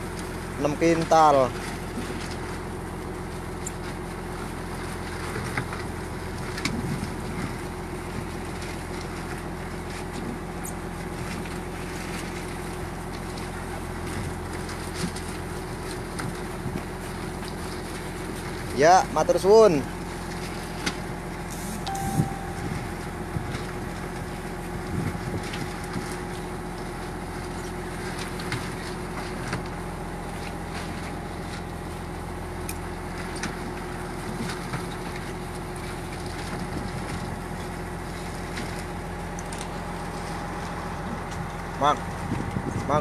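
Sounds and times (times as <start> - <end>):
boat engine running: 0.0 - 43.0.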